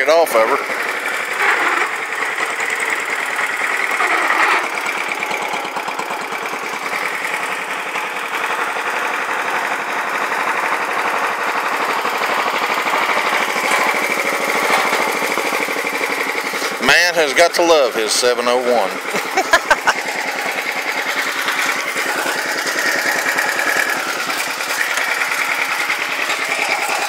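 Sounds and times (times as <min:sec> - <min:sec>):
garden tractor engine running: 0:00.0 - 0:27.0.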